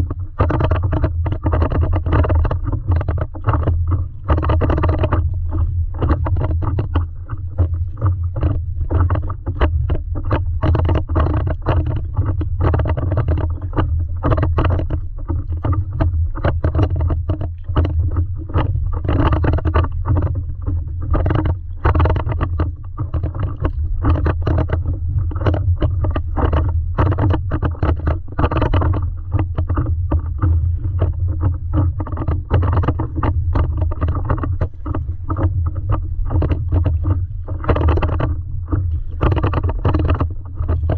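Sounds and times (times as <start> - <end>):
steady low rumble: 0.0 - 40.9
water slapping against paddleboard: 0.0 - 40.9.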